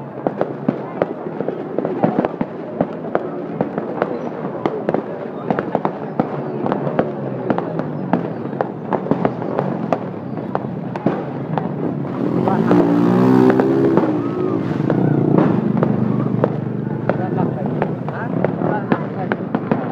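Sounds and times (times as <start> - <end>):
fireworks banging: 0.0 - 19.9
motorbike engines passing: 0.0 - 19.9.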